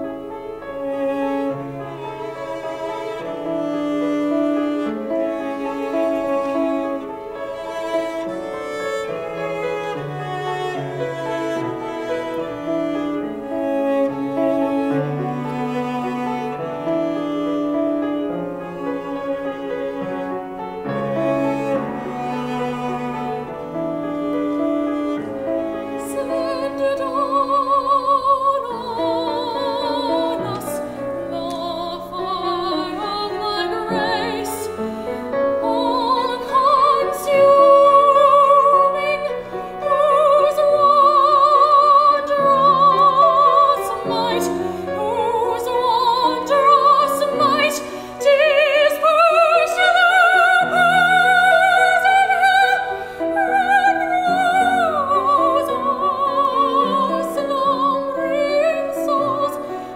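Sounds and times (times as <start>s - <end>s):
grand piano accompaniment: 0.0s - 59.9s
soprano singing: 0.0s - 59.9s.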